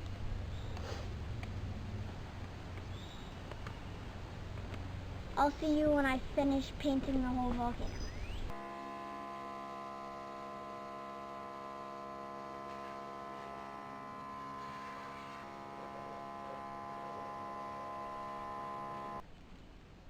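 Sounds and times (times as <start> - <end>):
electrical hum: 0.0 - 19.2.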